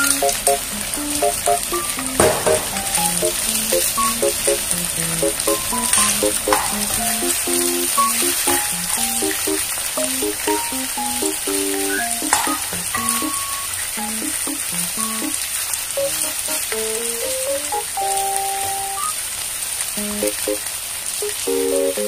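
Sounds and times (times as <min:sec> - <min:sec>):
simple background music melody: 0:00.0 - 0:15.4, 0:16.0 - 0:19.2, 0:21.2 - 0:22.0
food sizzling in oil: 0:00.0 - 0:22.0.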